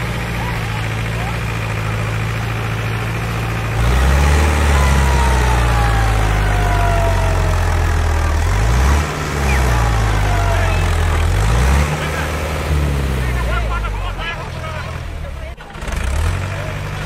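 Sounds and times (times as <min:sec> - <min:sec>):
heavy vehicle engine revving: 0:00.0 - 0:17.0.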